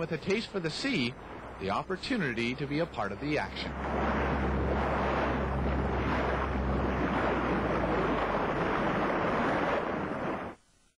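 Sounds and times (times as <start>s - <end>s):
wind buffeting microphone: 0.0s - 10.6s
water noise: 0.0s - 10.9s.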